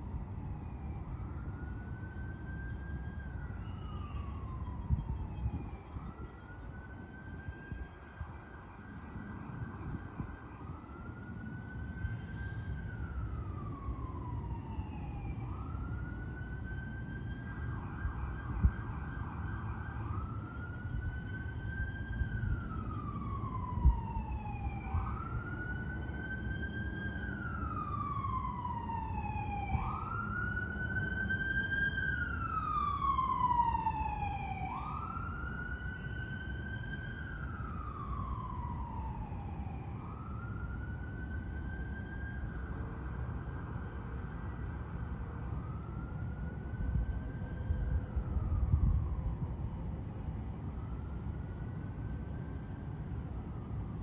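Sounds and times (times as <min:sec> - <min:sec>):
siren wailing: 0:00.0 - 0:54.0.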